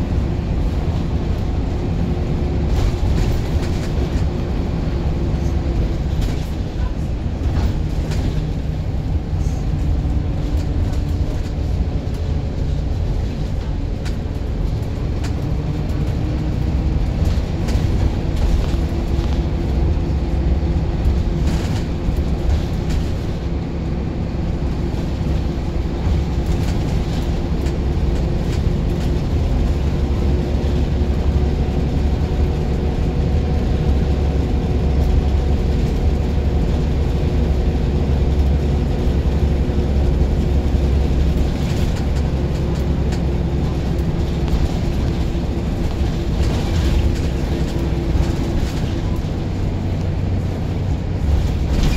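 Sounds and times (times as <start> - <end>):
bus engine rumble: 0.0 - 51.9.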